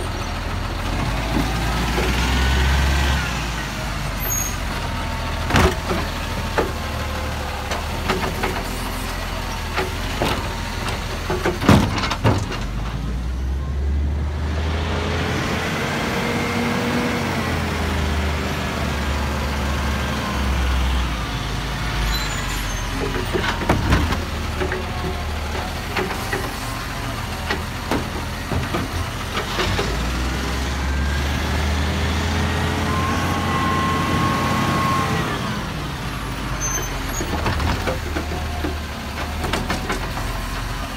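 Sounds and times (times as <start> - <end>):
garbage truck engine: 0.0 - 40.9.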